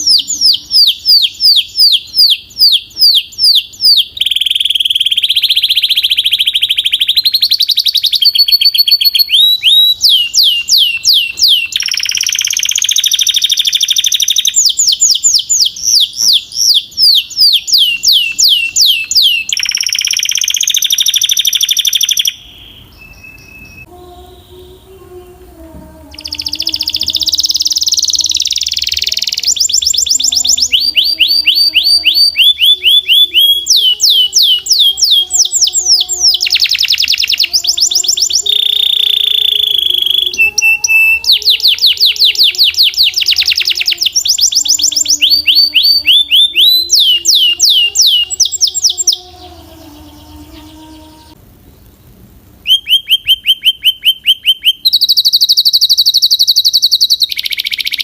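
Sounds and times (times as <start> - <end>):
canary singing trills: 0.0 - 51.4, 52.6 - 58.0.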